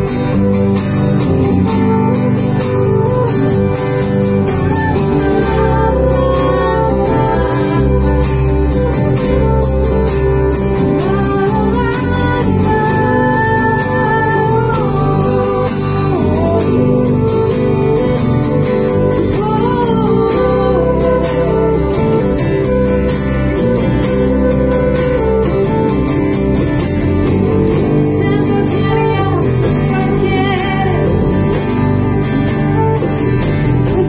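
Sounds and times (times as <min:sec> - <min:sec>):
acoustic guitar: 0:00.0 - 0:34.0
drums: 0:00.0 - 0:34.0
electric bass: 0:00.0 - 0:34.0
flute: 0:00.0 - 0:34.0
woman singing slow melody: 0:01.2 - 0:26.1, 0:27.2 - 0:34.0.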